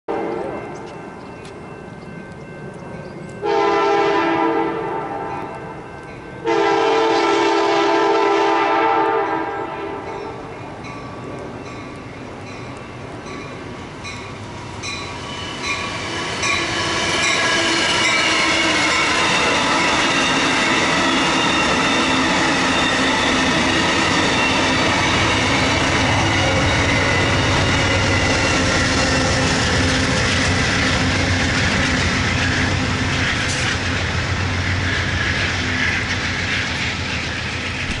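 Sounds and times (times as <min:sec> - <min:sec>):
passenger train passing: 0:00.1 - 0:38.0
wheels squealing on rails: 0:00.2 - 0:38.0.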